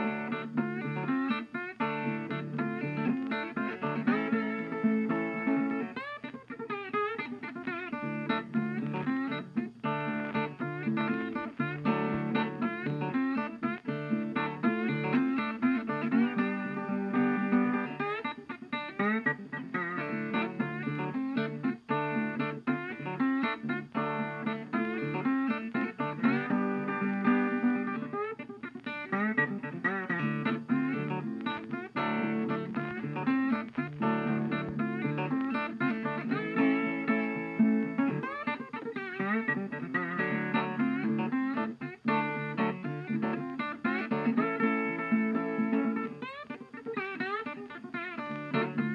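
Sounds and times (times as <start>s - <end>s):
plucked and strummed guitar music: 0.0s - 48.9s.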